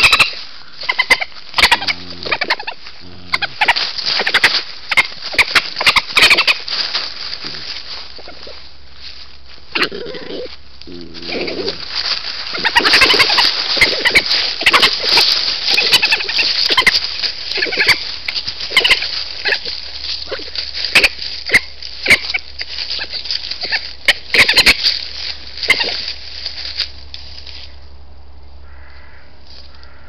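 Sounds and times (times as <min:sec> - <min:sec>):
lower badger calls: 0:00.0 - 0:06.7, 0:07.4 - 0:08.7, 0:09.7 - 0:26.2, 0:28.6 - 0:30.0
badger cubs squealing and chittering: 0:00.0 - 0:08.6, 0:09.8 - 0:26.5.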